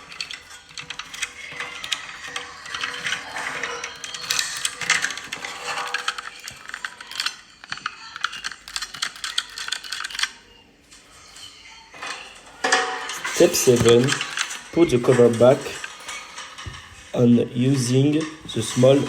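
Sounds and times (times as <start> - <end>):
plastic and metal clicks and rattles: 0.0 - 11.0, 12.0 - 17.2.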